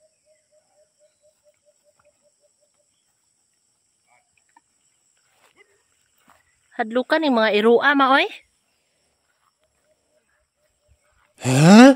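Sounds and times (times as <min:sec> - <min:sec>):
insect drone: 0:00.0 - 0:11.9.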